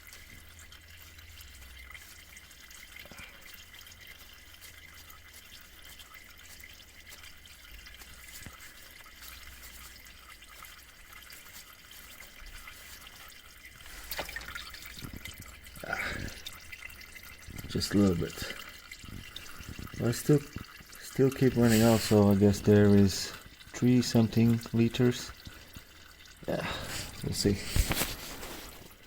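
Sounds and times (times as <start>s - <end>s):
oil trickling into container: 0.0s - 29.0s.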